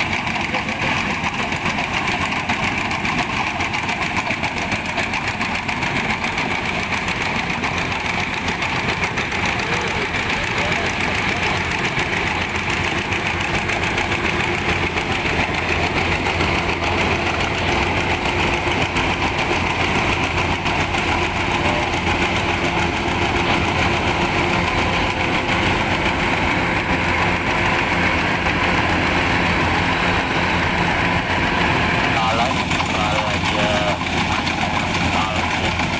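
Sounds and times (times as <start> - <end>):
harvesting machine engine running: 0.0 - 35.9.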